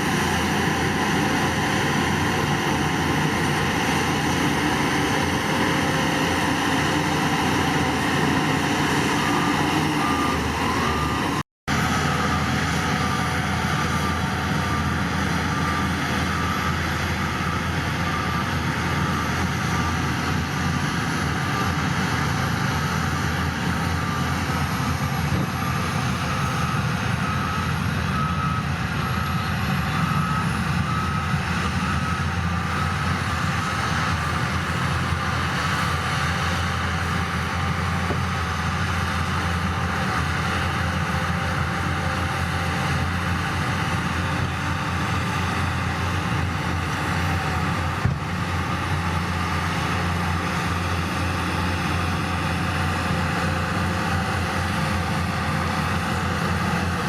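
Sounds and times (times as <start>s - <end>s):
reversing alarm beeping: 0.0s - 53.2s
heavy diesel machinery running: 0.0s - 57.0s.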